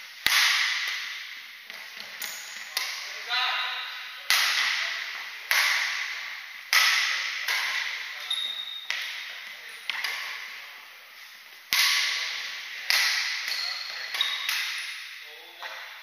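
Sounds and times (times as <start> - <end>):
racquets hitting shuttlecock: 0.0 - 16.0.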